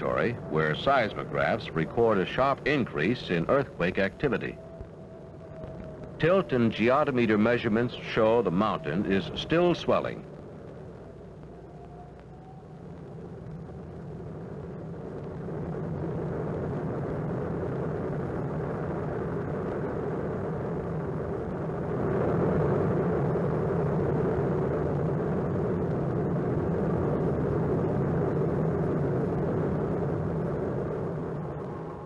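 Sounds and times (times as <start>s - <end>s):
erupting lava rushing: 0.0s - 32.0s.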